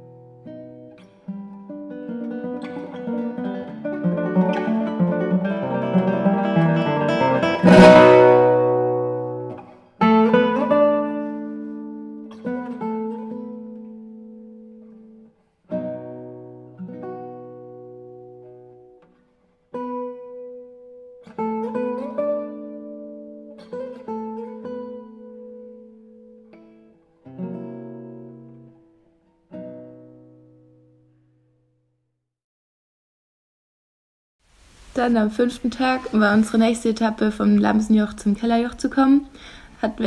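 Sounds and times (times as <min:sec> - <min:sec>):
acoustic guitar music: 0:00.0 - 0:32.1, 0:34.6 - 0:40.0.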